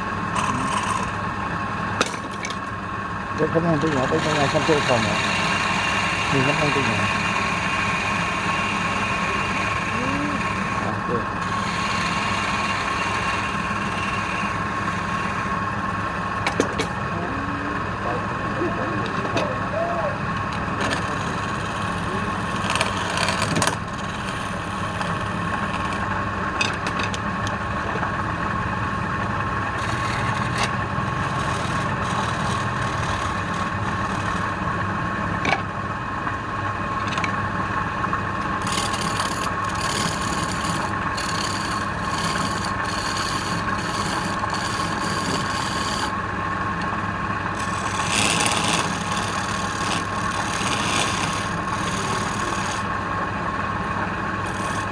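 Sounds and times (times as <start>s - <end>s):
tool scraping spinning wood: 0.0s - 1.3s, 2.0s - 18.1s, 20.4s - 27.3s, 29.4s - 35.6s, 38.2s - 53.1s, 54.0s - 54.9s
wood lathe motor whine: 0.0s - 54.9s.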